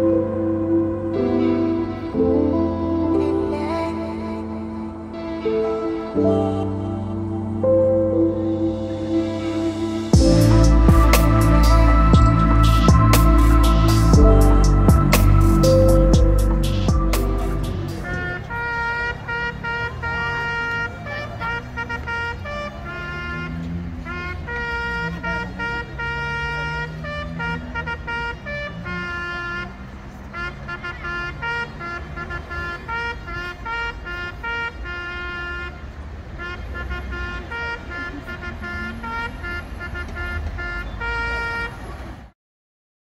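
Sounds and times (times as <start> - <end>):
car horns honking: 0.0 - 42.3
road traffic rumble: 0.0 - 42.4.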